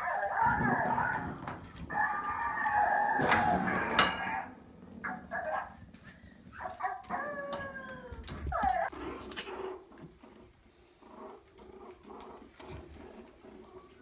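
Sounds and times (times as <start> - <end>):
puppies crying and whining: 0.0 - 4.7, 6.2 - 14.0.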